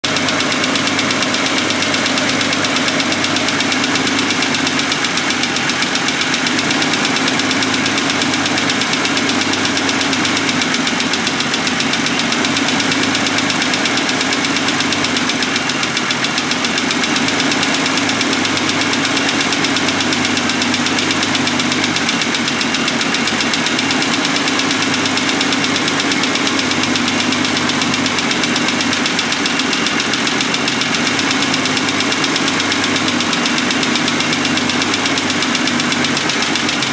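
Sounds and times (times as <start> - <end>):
car engine idling: 0.0 - 36.9
rapid ticking knock: 0.0 - 36.9.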